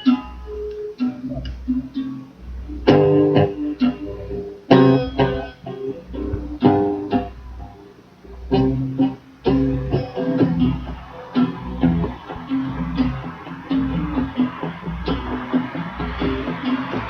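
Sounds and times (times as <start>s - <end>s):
guitar chords: 0.0s - 17.0s
bass line: 0.3s - 17.0s.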